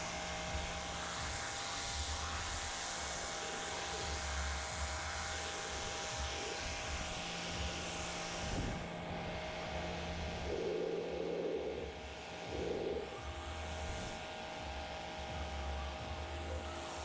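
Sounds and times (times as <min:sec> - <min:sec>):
low steady hum: 0:00.0 - 0:17.0
rushing machine noise: 0:00.0 - 0:17.0.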